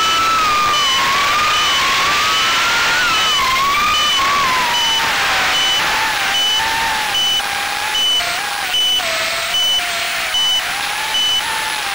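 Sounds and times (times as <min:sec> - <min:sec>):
short high buzzer beeps: 0:00.0 - 0:11.5
brushless motors whining: 0:00.0 - 0:11.9.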